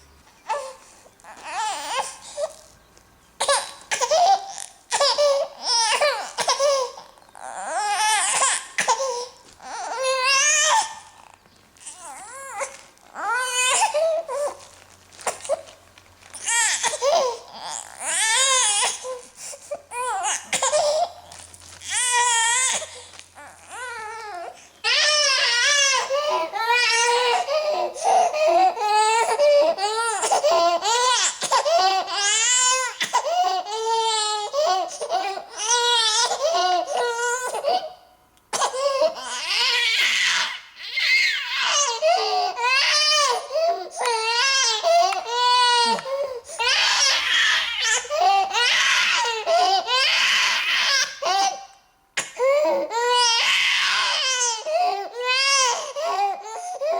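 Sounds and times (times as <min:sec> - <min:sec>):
baby crying: 0:00.5 - 0:02.7, 0:03.4 - 0:14.7, 0:16.4 - 0:56.9.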